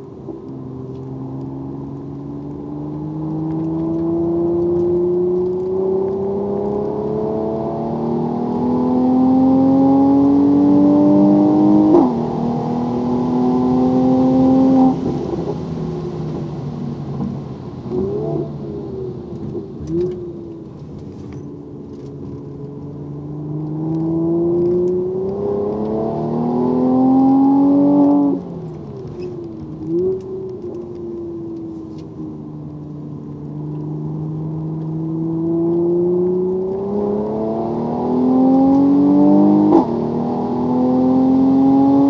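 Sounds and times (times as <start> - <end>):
car engine at full throttle: 0.0 - 42.0.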